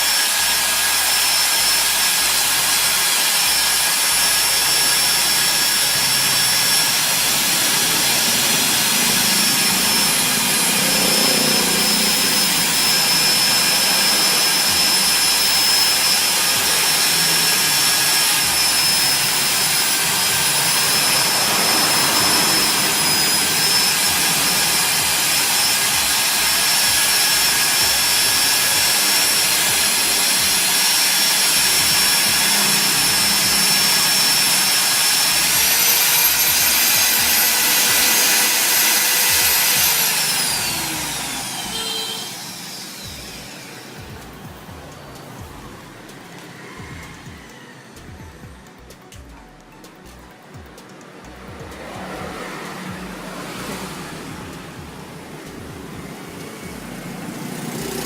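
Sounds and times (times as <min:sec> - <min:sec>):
electric drill motor whining: 0:00.0 - 0:49.3, 0:50.3 - 0:58.0.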